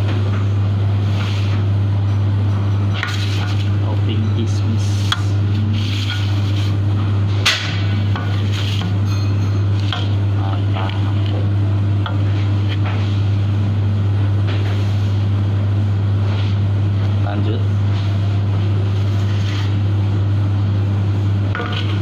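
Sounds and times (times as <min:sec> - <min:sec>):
machinery low hum: 0:00.0 - 0:22.0.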